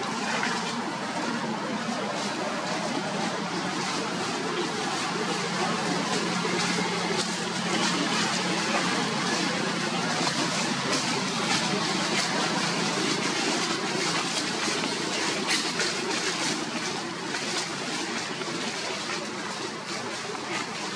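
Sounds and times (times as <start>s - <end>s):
outdoor background noise: 0.0s - 20.9s.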